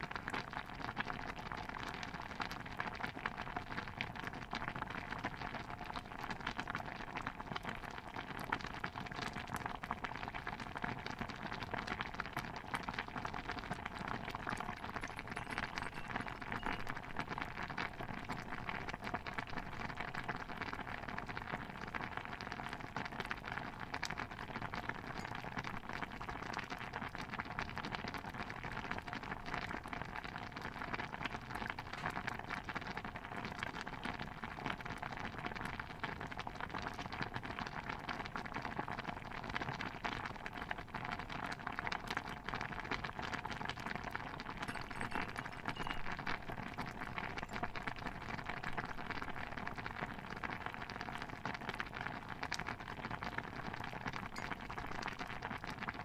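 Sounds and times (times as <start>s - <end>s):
stew bubbling with pops: 0.0s - 56.0s.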